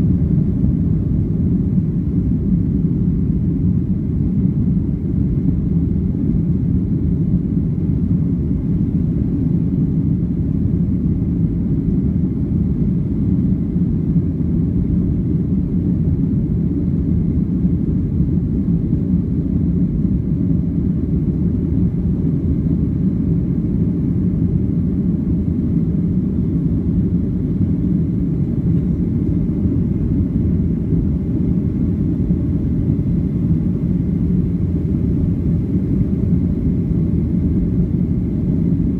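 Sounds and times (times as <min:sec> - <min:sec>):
jet cabin rumble: 0:00.0 - 0:38.9.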